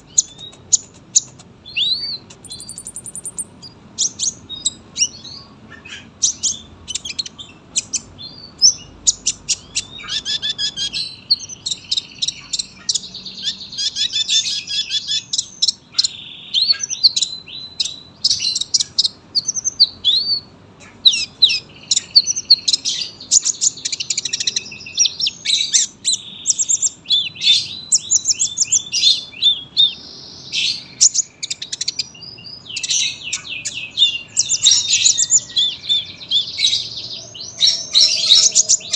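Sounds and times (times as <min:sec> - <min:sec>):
sunbird singing: 0:00.0 - 0:38.9.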